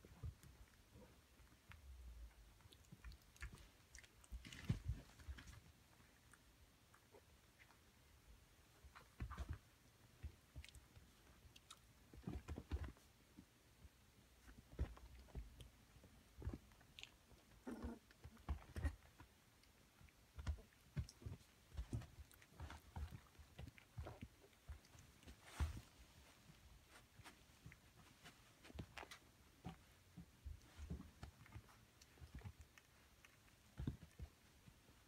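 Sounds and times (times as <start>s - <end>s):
puppies scuffling and mouthing: 0.0s - 35.0s.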